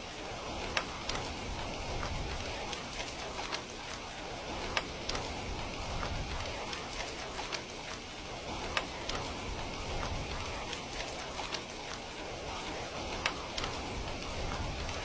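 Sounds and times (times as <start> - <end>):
heavy rain falling: 0.0 - 15.0
sharp raindrop ticks: 0.0 - 15.0.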